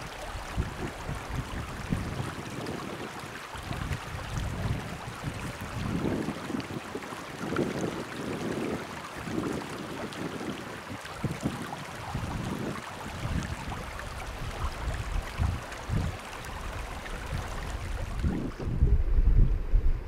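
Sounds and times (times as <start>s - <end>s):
river water over gravel: 0.0s - 18.8s
wind buffeting microphone: 0.0s - 20.0s.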